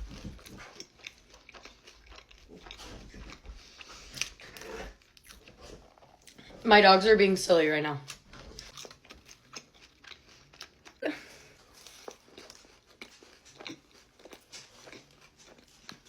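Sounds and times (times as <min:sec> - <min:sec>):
chewing and crunching food: 0:00.0 - 0:07.0, 0:08.0 - 0:16.0.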